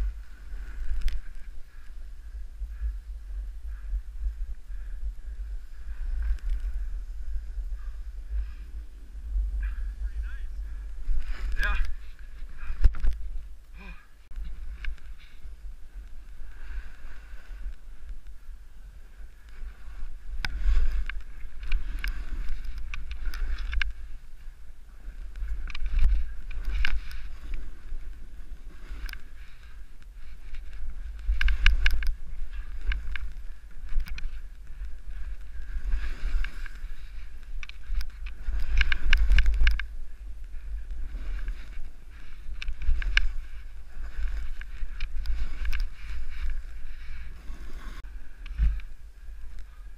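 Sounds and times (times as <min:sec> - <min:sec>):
wind rumble on microphone: 0:00.0 - 0:49.9
snowboard scraping snow: 0:05.6 - 0:13.4, 0:14.4 - 0:48.0.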